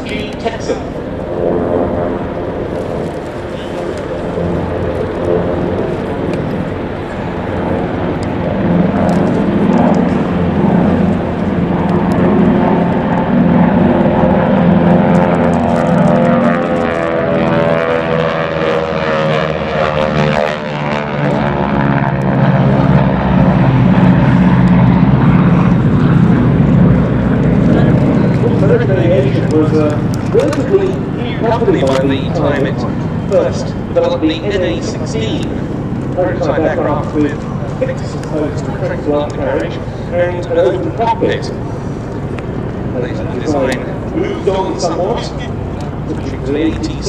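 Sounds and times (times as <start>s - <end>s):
propeller planes droning past: 0.0s - 47.0s.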